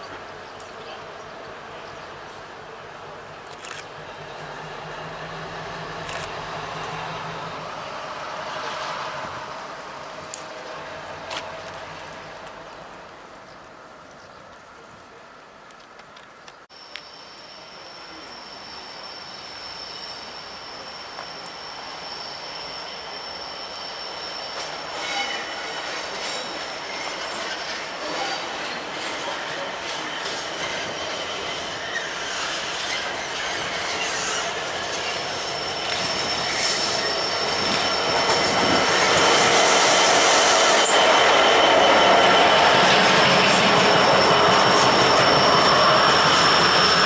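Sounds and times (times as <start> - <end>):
train approaching: 0.0 - 47.0
wheels squealing on rails: 1.8 - 12.9, 16.7 - 47.0.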